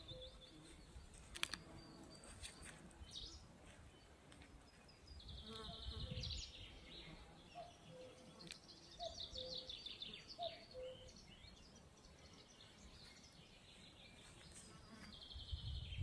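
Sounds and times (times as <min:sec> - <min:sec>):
faint outdoor hush: 0:00.0 - 0:15.8
high trilling birdsong: 0:00.0 - 0:16.0.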